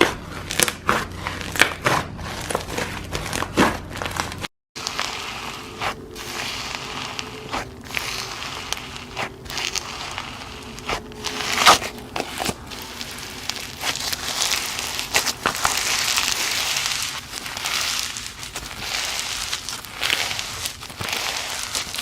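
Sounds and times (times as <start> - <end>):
slime squished by hand: 0.0 - 22.0.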